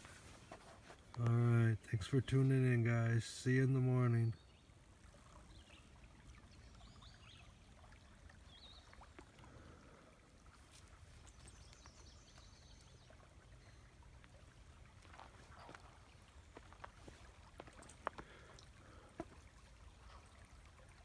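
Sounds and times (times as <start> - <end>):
faint river rush: 0.0 - 21.0.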